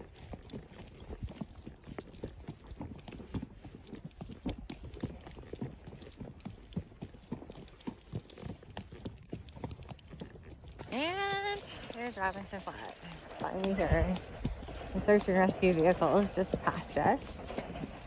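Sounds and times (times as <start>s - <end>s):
horse hooves on dirt road: 0.0s - 18.0s.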